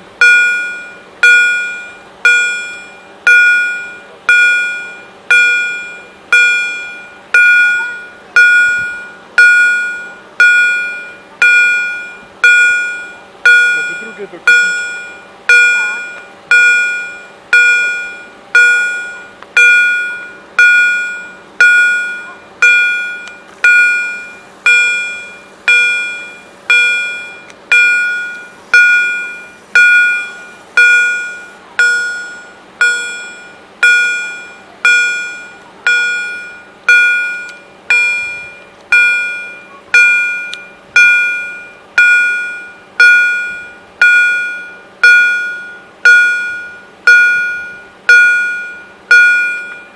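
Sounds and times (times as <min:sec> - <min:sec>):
level-crossing warning bell: 0:00.0 - 0:49.9.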